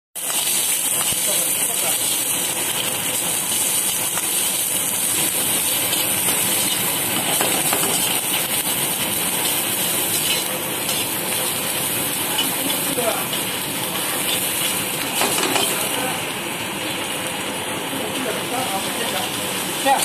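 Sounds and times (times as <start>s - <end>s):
food sizzling in a wok: 0.2s - 20.0s.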